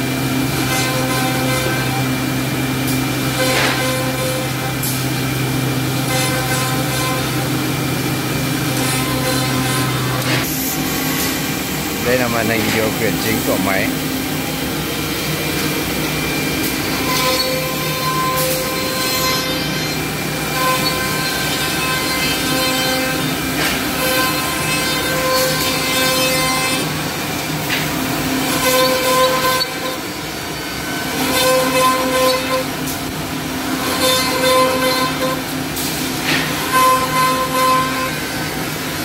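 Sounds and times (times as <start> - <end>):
machine spindles running: 0.1 - 39.0.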